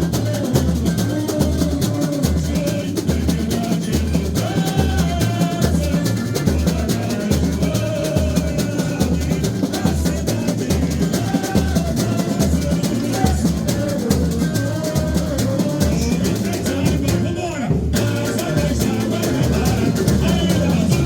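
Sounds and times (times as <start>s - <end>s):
snares and shakers rattling: 0.0s - 17.3s, 18.0s - 21.0s
deep surdo drums: 0.0s - 21.0s.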